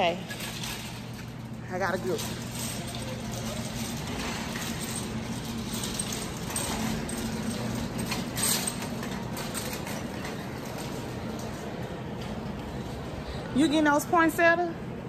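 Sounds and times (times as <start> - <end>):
shopping cart rattling: 0.0 - 13.0
steady low hum: 0.0 - 15.0.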